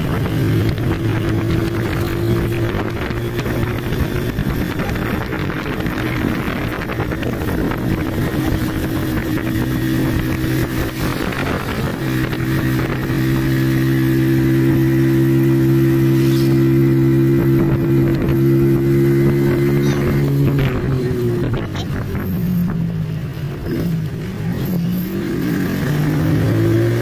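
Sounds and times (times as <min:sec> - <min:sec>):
auto-rickshaw engine running: 0:00.0 - 0:27.0.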